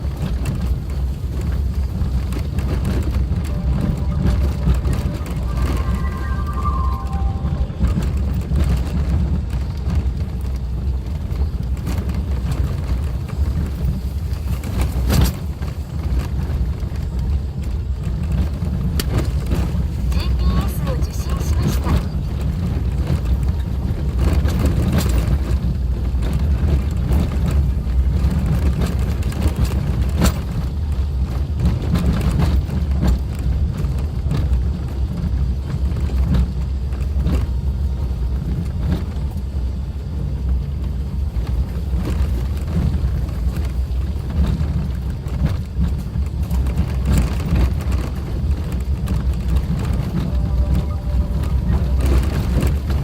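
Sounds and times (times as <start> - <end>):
car engine on rough road: 0.0 - 53.0.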